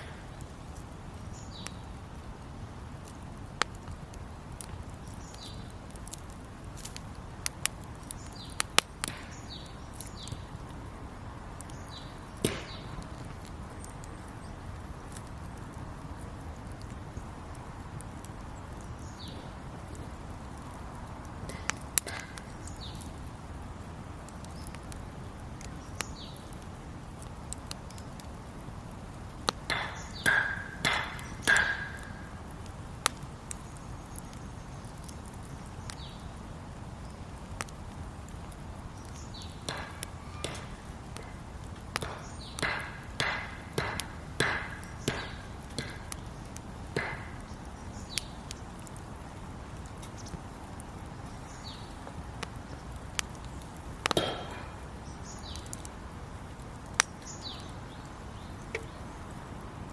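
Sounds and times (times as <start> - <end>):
faint crackles: 0.0 - 59.9
low hiss: 0.0 - 59.9.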